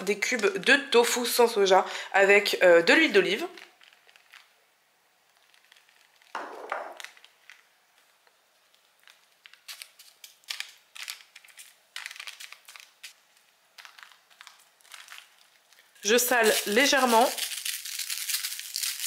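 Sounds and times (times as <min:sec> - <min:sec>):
parchment paper rustling: 0:03.1 - 0:04.6, 0:05.2 - 0:19.0.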